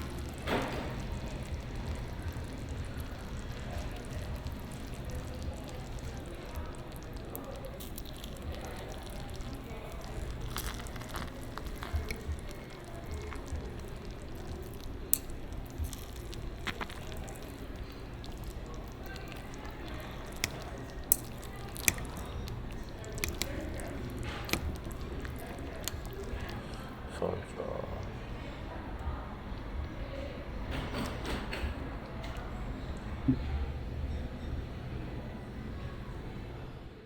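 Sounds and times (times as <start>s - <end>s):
wet squishy soup sounds: 0.0s - 30.3s.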